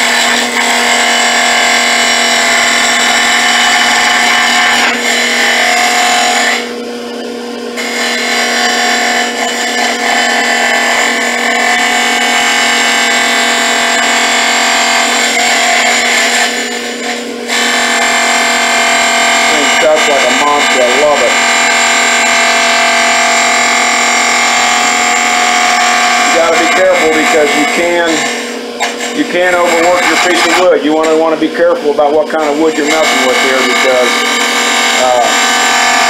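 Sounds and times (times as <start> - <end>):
bit cutting wood: 0.0 - 6.9, 7.7 - 36.0
lathe humming: 0.0 - 36.0.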